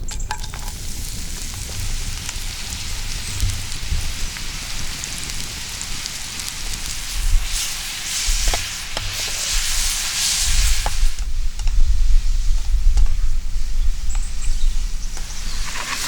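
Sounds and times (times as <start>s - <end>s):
fire crackling: 0.0s - 16.0s
meat sizzling over fire: 0.0s - 16.0s.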